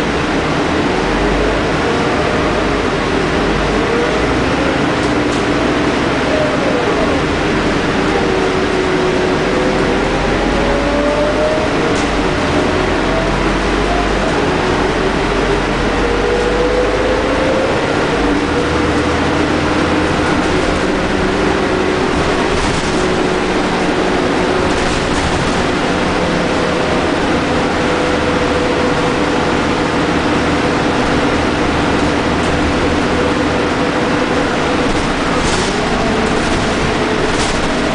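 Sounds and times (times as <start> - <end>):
bus engine rumble: 0.0 - 37.9
engine and gearbox whine: 0.0 - 37.9
road noise: 0.0 - 37.9.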